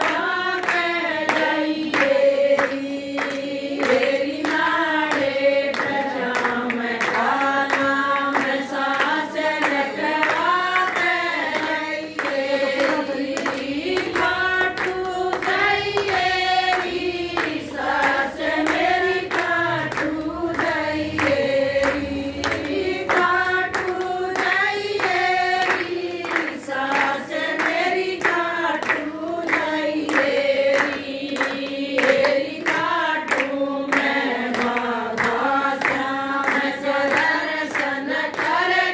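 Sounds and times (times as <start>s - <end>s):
hand clapping: 0.0s - 38.9s
women singing in chorus: 0.0s - 38.9s.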